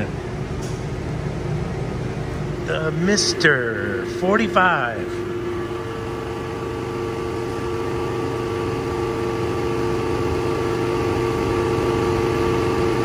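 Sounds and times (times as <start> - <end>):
machine motor hum: 0.0 - 13.0
steady machine tones: 0.0 - 13.0.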